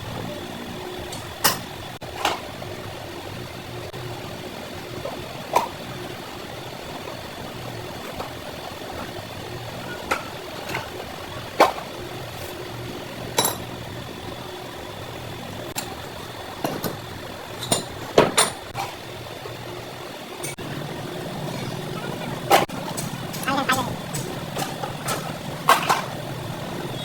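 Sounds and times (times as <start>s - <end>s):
workshop hum: 0.0s - 27.0s.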